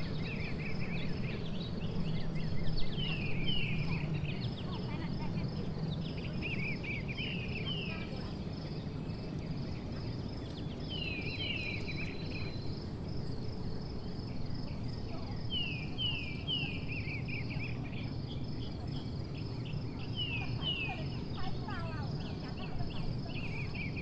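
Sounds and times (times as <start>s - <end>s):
bird chirping: 0.0s - 24.0s
insect drone: 0.0s - 24.0s.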